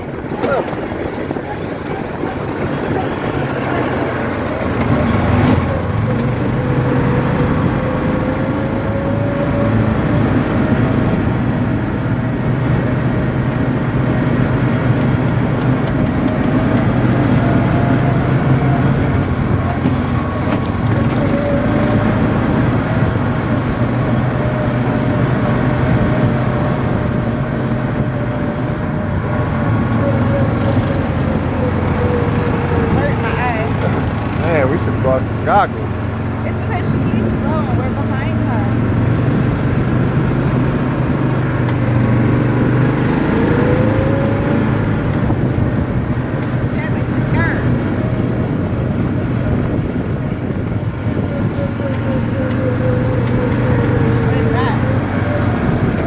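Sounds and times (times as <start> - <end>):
atv engine whining: 0.0 - 56.0.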